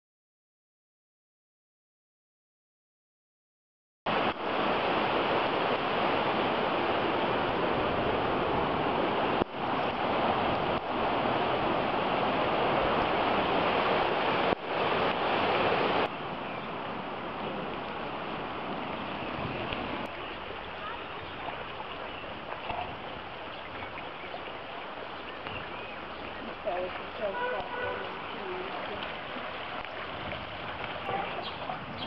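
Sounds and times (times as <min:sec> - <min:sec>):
floodwater rushing: 0:04.1 - 0:32.0.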